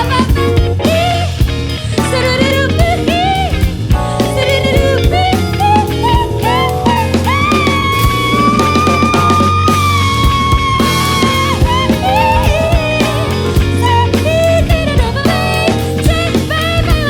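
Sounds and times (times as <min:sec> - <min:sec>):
bass: 0:00.0 - 0:17.0
bending lead melody: 0:00.0 - 0:17.0
drums: 0:00.0 - 0:17.0
live band playing: 0:00.0 - 0:17.0.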